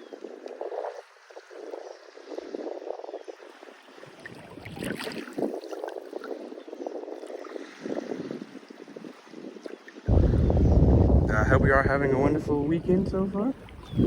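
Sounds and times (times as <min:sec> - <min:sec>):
lake water lapping and splashing: 0:00.0 - 0:14.0.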